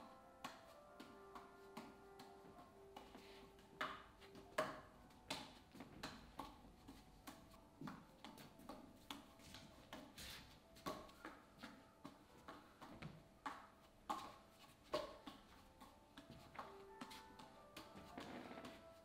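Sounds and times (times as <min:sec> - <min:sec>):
juggling clubs slapping into hands: 0:00.1 - 0:18.9.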